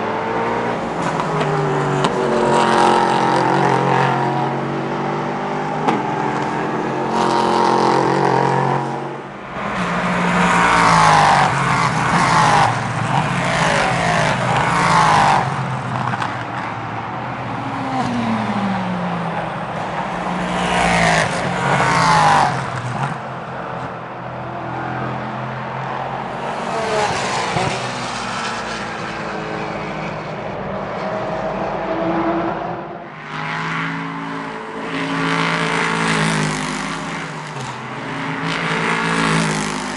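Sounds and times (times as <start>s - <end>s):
race cars passing at speed: 0.0s - 39.9s.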